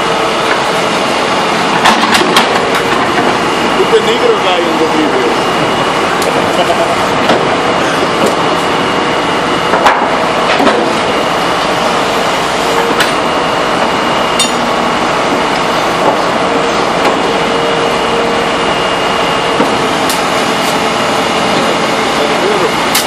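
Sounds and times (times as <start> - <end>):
heavy engines running: 0.0 - 23.0.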